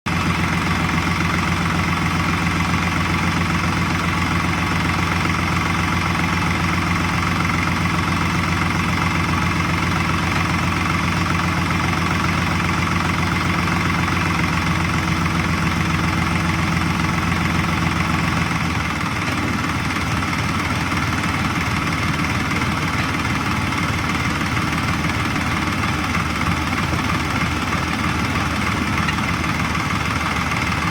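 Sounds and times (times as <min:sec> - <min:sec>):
tractor engine idling: 0:00.1 - 0:30.9.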